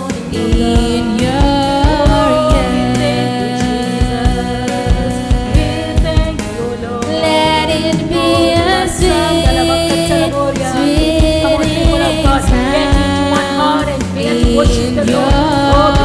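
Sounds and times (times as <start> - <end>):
bass line: 0.0 - 16.0
steady drum beat: 0.0 - 16.0
voices singing: 0.0 - 16.0.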